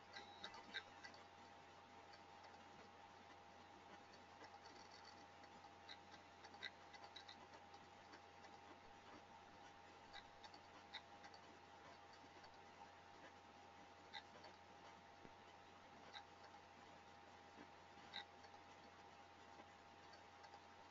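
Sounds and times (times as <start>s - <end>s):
faint irregular clicks: 0.0s - 20.9s
faint steady hum: 0.0s - 20.9s.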